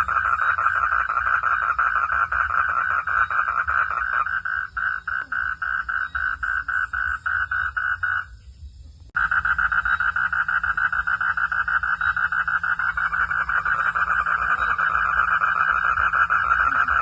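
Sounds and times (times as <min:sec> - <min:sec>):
frogs calling: 0:00.0 - 0:08.6, 0:09.2 - 0:17.0.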